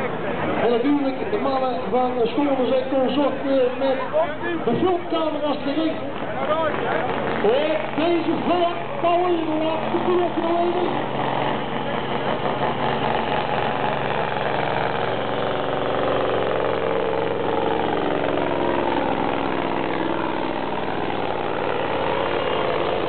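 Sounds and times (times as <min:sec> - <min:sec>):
truck engine running under load: 0:00.0 - 0:23.0.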